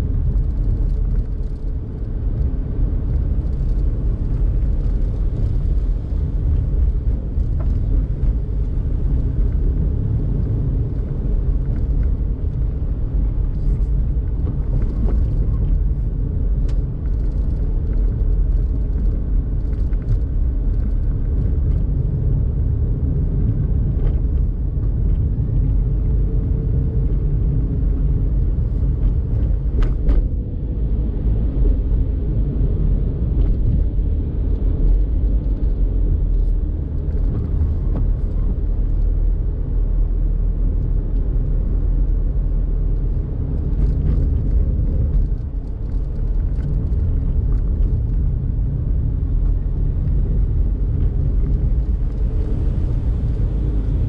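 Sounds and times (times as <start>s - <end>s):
car road rumble: 0.0s - 54.0s.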